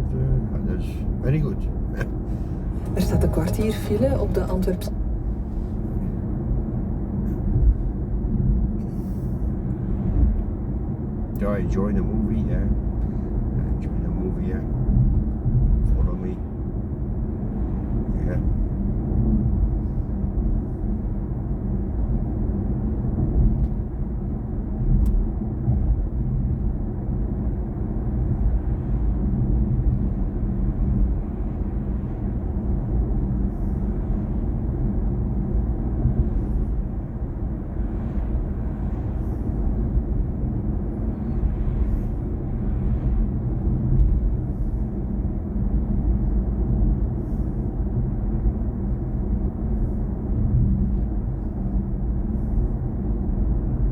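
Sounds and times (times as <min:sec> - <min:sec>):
car road and tyre rumble: 0:00.0 - 0:53.9.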